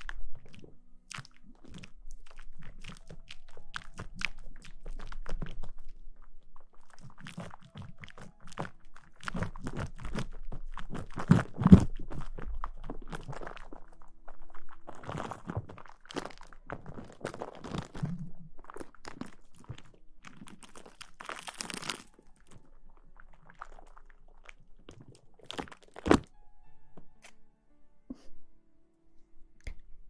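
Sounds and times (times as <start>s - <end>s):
close rustling and crinkling: 0.0s - 26.3s.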